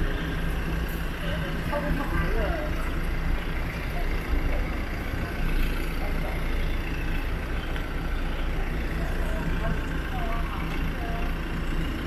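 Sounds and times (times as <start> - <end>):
minibus engine idling: 0.0 - 12.0.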